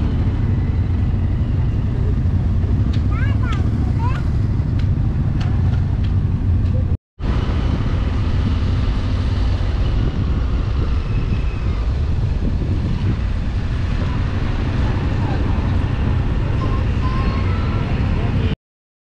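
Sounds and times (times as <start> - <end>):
motorcycle engine rumble: 0.0 - 18.6
wind on microphone: 0.0 - 18.6.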